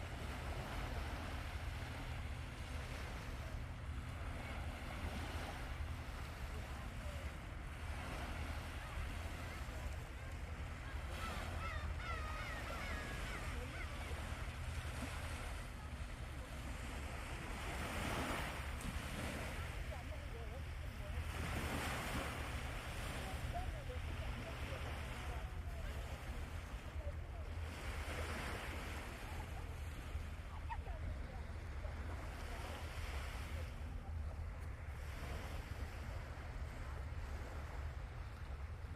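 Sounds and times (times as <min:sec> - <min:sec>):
surf washing on beach: 0:00.0 - 0:38.9.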